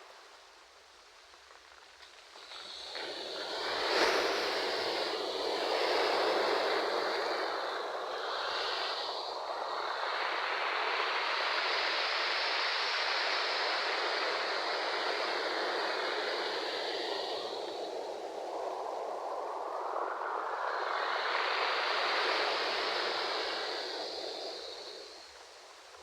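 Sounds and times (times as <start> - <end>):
ocean waves washing in: 2.8 - 25.9.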